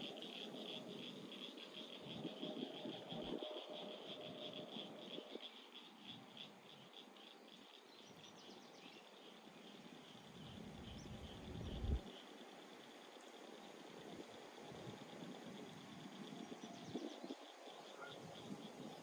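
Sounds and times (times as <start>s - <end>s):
insects calling: 0.0s - 19.0s.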